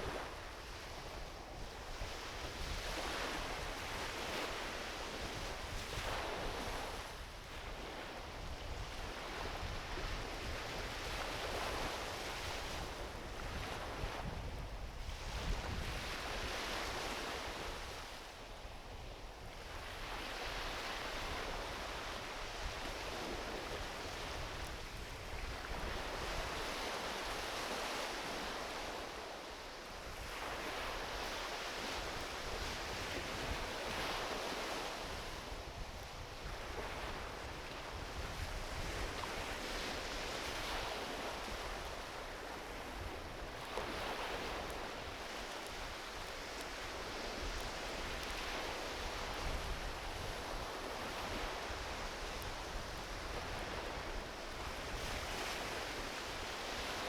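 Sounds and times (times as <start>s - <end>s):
ocean waves washing onto beach: 0.0s - 57.0s.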